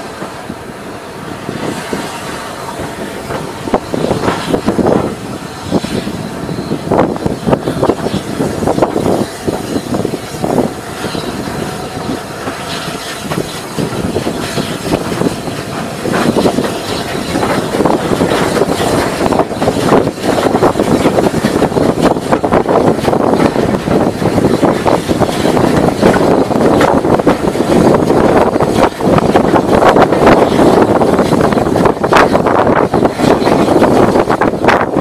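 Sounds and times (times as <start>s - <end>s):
steam locomotive running: 0.0s - 35.0s.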